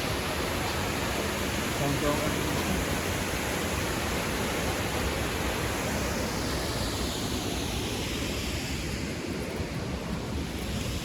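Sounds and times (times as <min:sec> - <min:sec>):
rush of falling water: 0:00.0 - 0:11.0.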